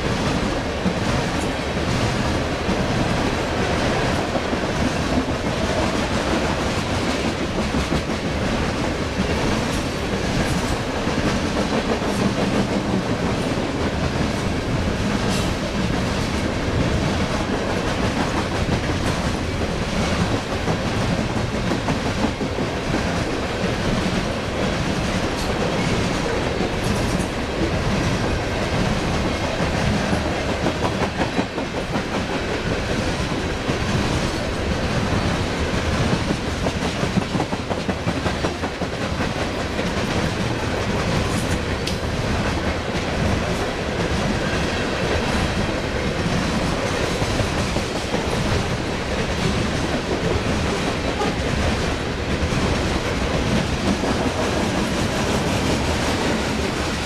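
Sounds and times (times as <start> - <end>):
steel wheels on rails: 0.0 - 57.0.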